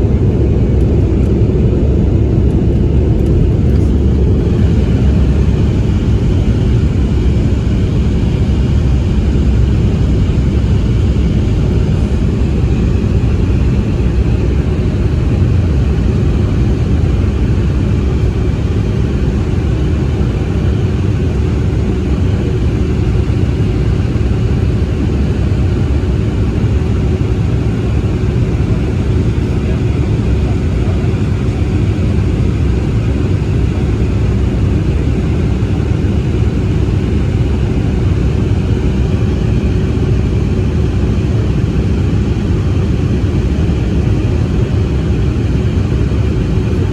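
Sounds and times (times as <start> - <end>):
faint steady engine whine: 0.0 - 46.9
jet engines rumbling: 0.0 - 46.9.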